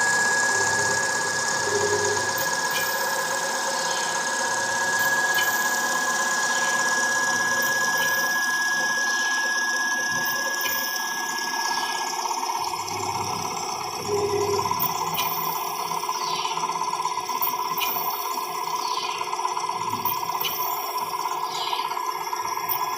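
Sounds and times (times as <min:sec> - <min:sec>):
stepper motor running with whine: 0:00.0 - 0:22.9.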